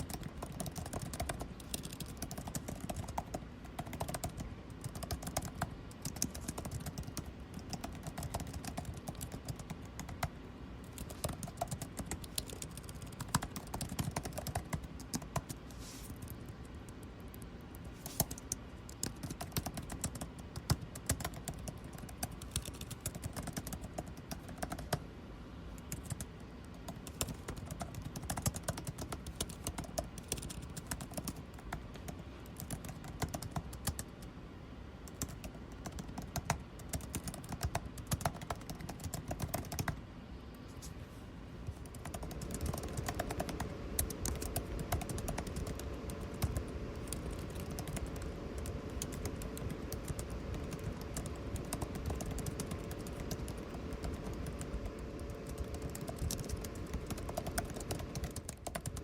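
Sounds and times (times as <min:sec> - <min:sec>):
keyboard typing: 0:00.0 - 0:25.0, 0:25.8 - 0:34.2, 0:35.0 - 0:40.0, 0:41.6 - 0:59.0
air conditioning hum: 0:00.0 - 0:59.0.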